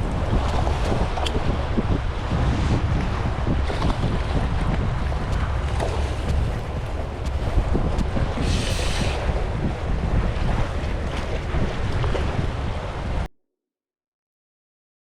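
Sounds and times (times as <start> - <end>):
sea water washing against breakwater: 0.0 - 13.2
wind buffeting microphone: 0.0 - 13.3.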